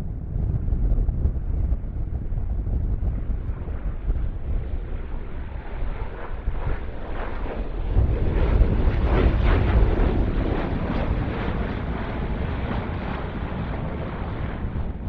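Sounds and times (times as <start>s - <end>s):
aircraft flying low past: 0.0s - 15.0s
wind on microphone: 0.0s - 15.0s.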